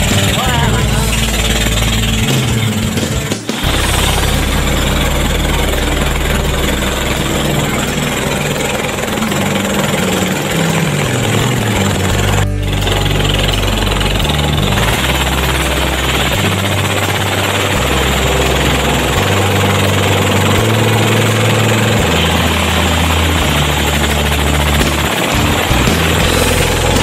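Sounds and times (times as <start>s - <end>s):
ice crusher running: 0.0s - 27.0s.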